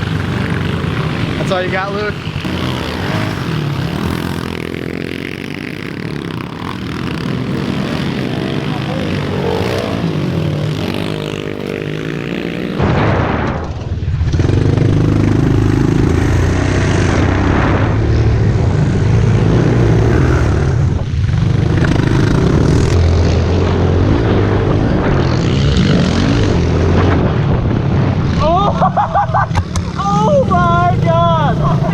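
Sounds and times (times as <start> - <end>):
pit bike engines revving: 0.0 - 12.9, 13.5 - 31.9.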